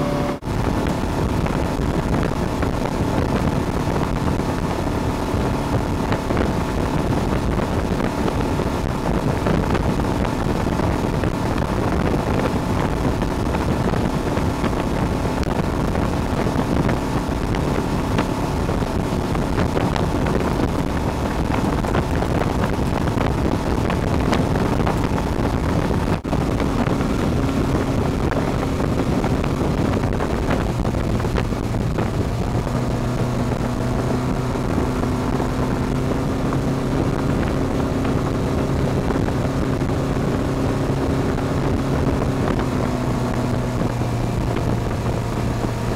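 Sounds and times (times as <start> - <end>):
motorboat engine running: 0.0 - 45.9
water rushing in wake: 0.0 - 45.9
wind buffeting microphone: 0.0 - 45.9.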